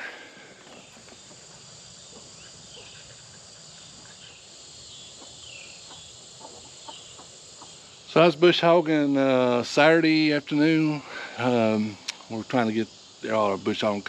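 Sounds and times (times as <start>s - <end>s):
crickets and insects chirring: 0.0s - 14.0s.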